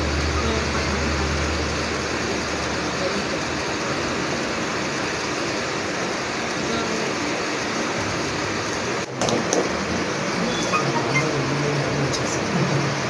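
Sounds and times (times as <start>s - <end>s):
crowded room noise: 0.0s - 13.0s.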